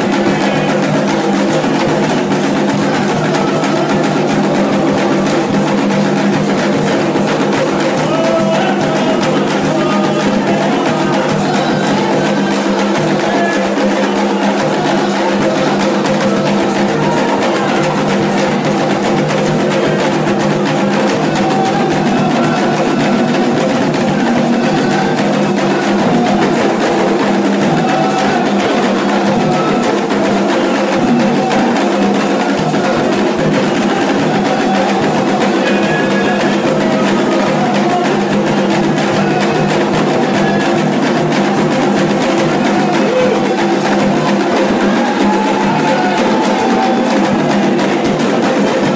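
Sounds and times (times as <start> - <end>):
drums and percussion playing: 0.0 - 48.9.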